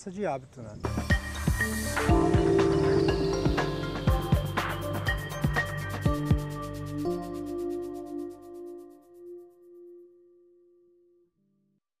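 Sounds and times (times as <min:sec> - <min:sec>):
faint theme music: 0:00.8 - 0:10.5.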